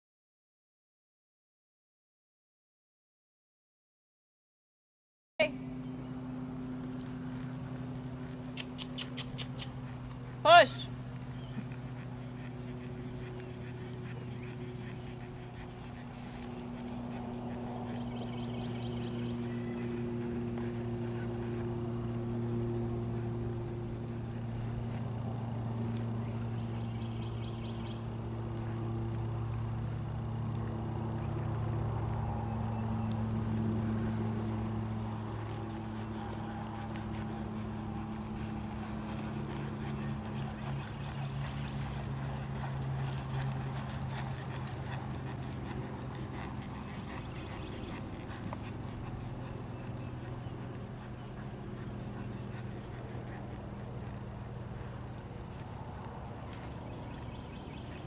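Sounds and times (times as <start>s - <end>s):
high insect drone: 5.4s - 58.0s
low motor hum: 5.4s - 58.0s.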